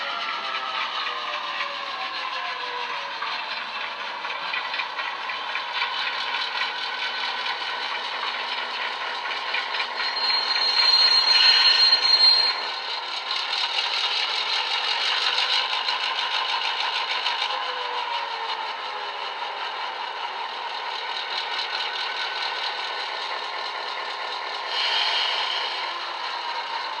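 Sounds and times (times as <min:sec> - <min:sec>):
diesel engine sound from small speaker: 0:00.0 - 0:27.0
high steady squeal: 0:00.0 - 0:27.0
model train rattling on track: 0:00.0 - 0:27.0.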